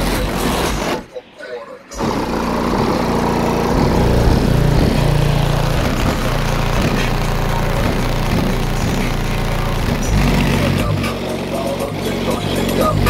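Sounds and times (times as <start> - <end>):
deep bass music from subwoofer: 0.0 - 1.1, 2.0 - 13.0.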